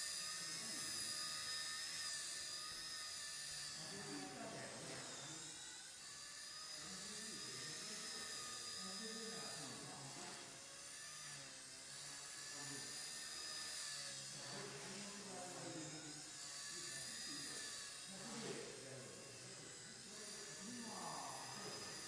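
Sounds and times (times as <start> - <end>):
toy helicopter rotor whine: 0.0 - 22.0.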